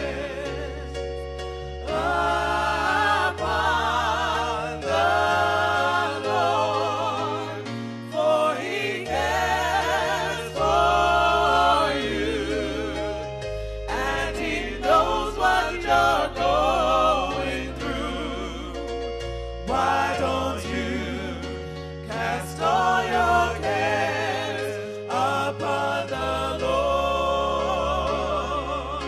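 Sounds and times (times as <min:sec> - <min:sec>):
voices singing with vibrato: 0:00.0 - 0:01.1, 0:01.8 - 0:19.0, 0:19.6 - 0:29.0.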